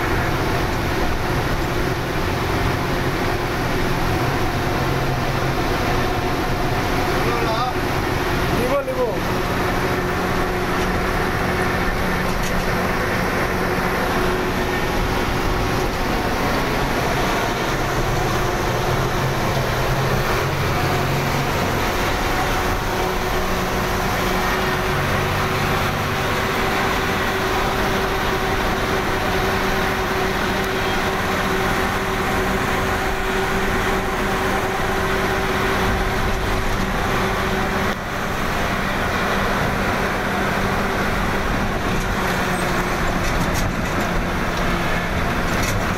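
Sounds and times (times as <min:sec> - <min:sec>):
road and wind noise: 0:00.0 - 0:45.9
truck diesel engine running: 0:00.0 - 0:45.9.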